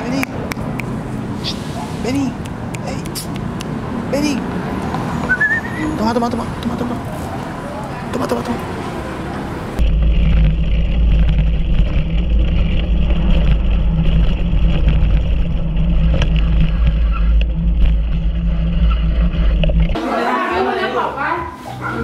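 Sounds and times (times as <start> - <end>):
vehicle running noise: 0.0 - 20.0.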